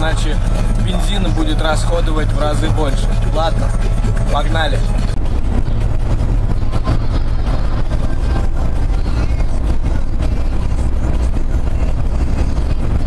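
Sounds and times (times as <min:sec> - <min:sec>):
road and tyre noise: 0:00.0 - 0:13.0
van engine drone: 0:00.0 - 0:13.0.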